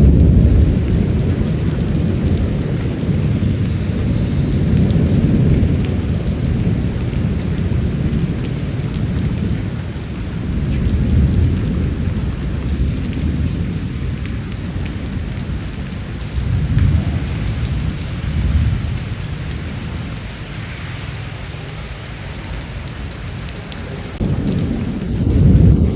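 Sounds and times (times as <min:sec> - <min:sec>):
rolling thunder: 0:00.0 - 0:25.9
steady rain: 0:00.0 - 0:25.9.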